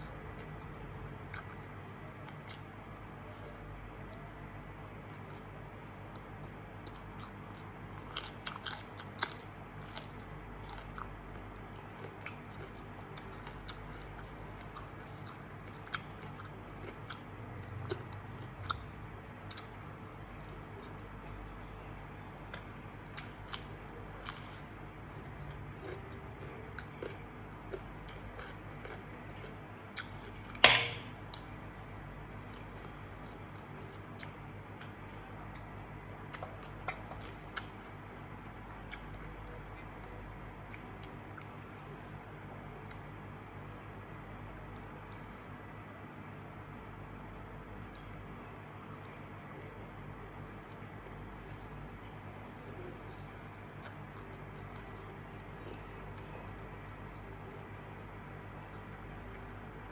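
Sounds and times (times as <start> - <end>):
person chewing food: 0.0 - 2.7, 4.5 - 44.0, 47.8 - 59.9
low steady hum: 0.0 - 59.9.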